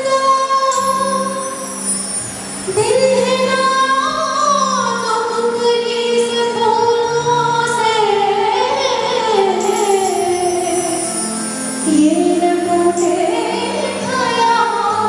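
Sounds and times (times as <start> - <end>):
woman singing into microphone: 0.0 - 1.7, 2.7 - 11.2, 11.8 - 15.0
instrumental accompaniment: 0.0 - 15.0.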